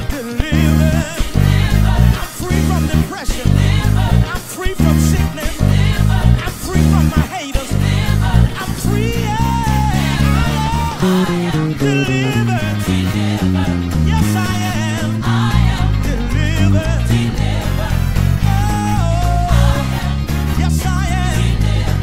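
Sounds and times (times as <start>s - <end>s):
electric bass guitar: 0.0s - 22.0s
person singing: 0.0s - 22.0s.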